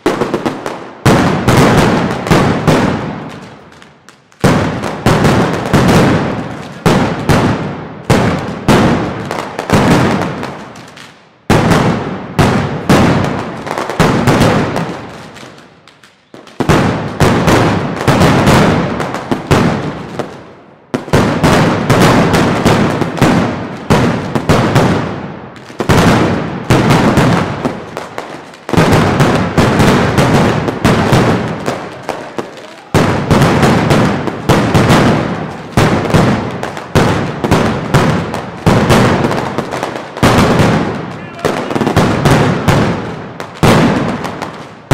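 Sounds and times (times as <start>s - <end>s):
ground firecrackers exploding: 0.0s - 44.9s.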